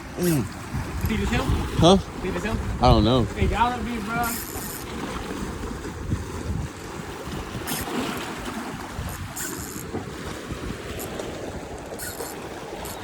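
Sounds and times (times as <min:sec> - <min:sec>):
surf on rocks: 0:00.0 - 0:13.0
wind buffeting microphone: 0:00.0 - 0:13.0.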